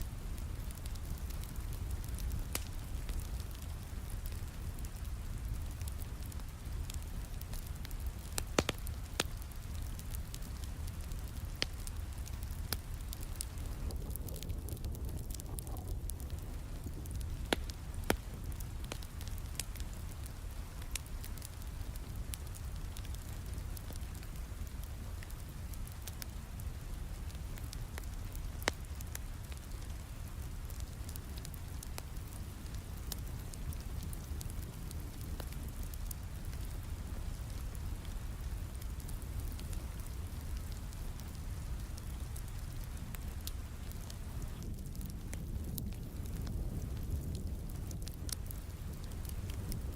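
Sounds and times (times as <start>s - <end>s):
fire crackling and popping: 0.0s - 49.9s
steady rain hiss: 0.0s - 49.9s.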